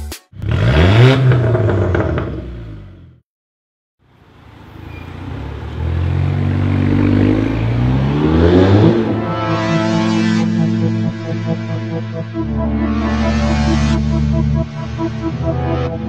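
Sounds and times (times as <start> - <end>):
car engine revving: 0.4 - 3.2, 5.2 - 16.0.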